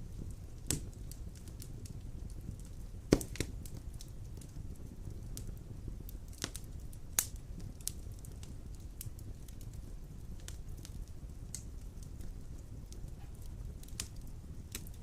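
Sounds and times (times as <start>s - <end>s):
fire crackles and snaps: 0.0s - 15.0s
fire rumbling: 0.0s - 15.0s.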